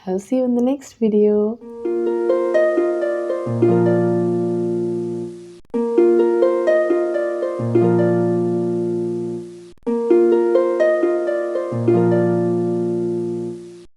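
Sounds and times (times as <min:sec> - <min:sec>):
plucked string melody: 0:01.6 - 0:13.8.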